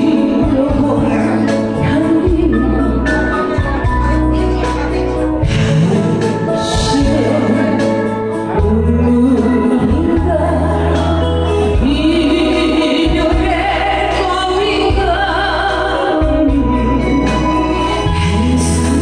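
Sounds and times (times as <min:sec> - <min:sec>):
instrumental accompaniment: 0:00.0 - 0:19.0
woman singing into microphone: 0:00.0 - 0:19.0.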